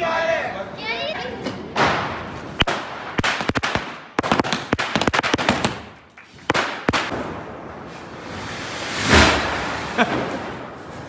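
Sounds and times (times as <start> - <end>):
firecrackers bursting: 1.8 - 11.0.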